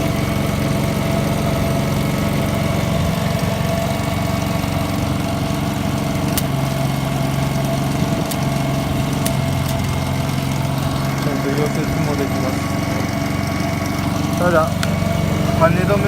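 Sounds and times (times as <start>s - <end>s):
welder generator engine running: 0.0s - 16.0s.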